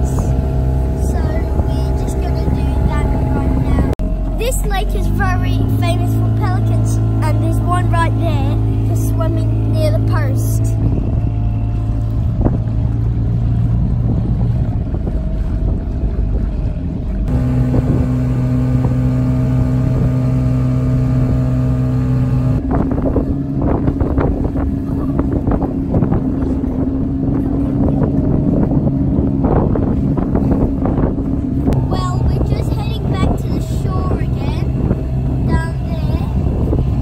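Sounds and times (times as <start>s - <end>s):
outboard motor running: 0.0s - 37.0s
wind and water noise: 0.0s - 37.0s.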